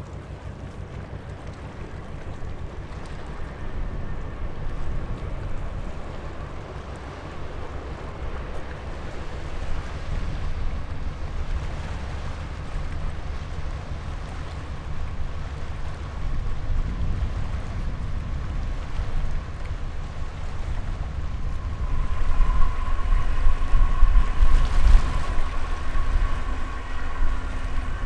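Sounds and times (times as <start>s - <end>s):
ship engine rumble: 0.0s - 28.0s
faint steady hum: 1.0s - 28.0s
wind noise on microphone: 1.6s - 28.0s.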